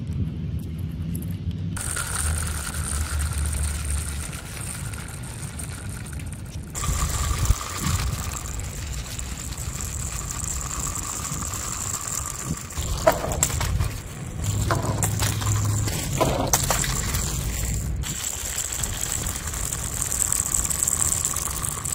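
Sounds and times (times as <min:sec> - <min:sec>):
low rumble: 0:00.0 - 0:21.6
toy motors whining: 0:01.8 - 0:21.9.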